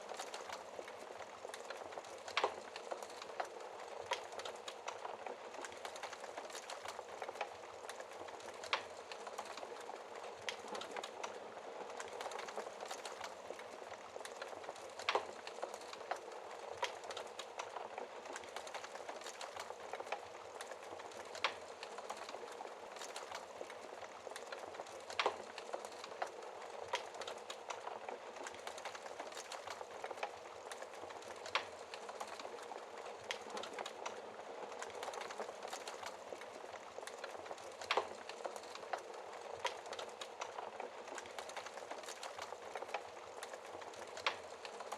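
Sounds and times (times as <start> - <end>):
burning logs popping: 0.0 - 44.9
wood fire crackling: 0.0 - 44.9.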